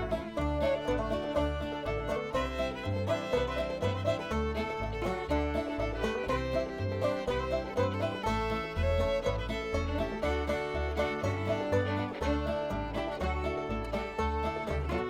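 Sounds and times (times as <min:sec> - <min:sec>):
bluegrass music with banjo and fiddle: 0:00.0 - 0:15.0.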